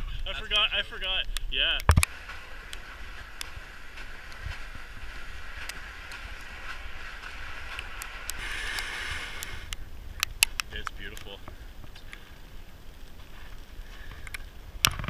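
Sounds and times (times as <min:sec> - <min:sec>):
freezing rain hissing and ticking: 0:00.0 - 0:15.0.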